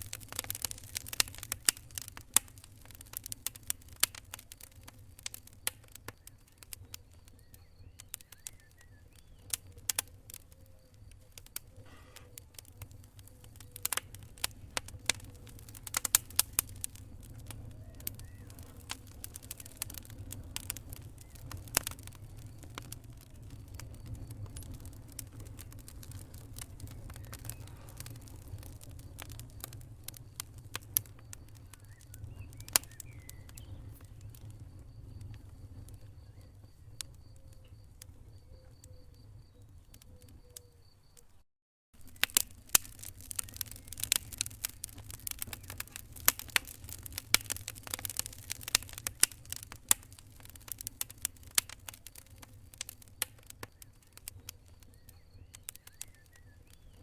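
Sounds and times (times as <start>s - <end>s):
low rumble of flames: 0.0s - 41.4s, 42.0s - 57.0s
wood fire crackling and popping: 0.0s - 41.4s, 42.0s - 57.0s.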